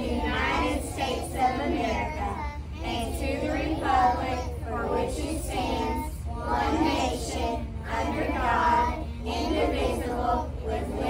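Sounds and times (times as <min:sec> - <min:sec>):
children and adults reciting in unison: 0:00.0 - 0:11.0.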